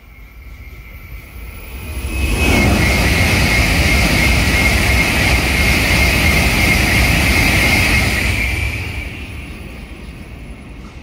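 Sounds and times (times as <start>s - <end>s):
bullet train passing: 0.0s - 11.0s.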